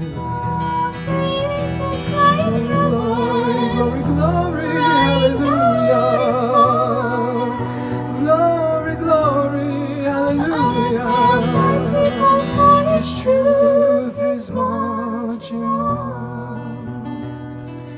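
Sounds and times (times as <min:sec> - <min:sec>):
hymn with vibrato melody: 0:00.0 - 0:17.2.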